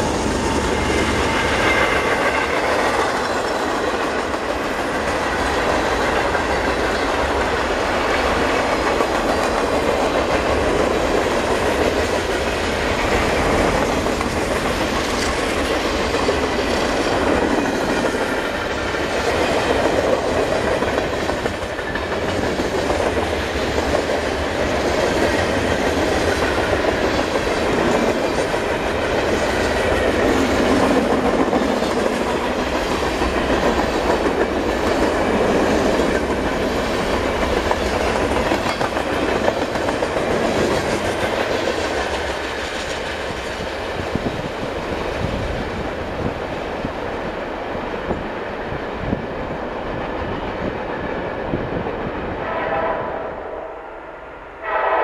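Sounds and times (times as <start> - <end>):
train wheels rumbling on rails: 0.0 - 55.0
wheels clicking over rail joints: 0.3 - 44.6.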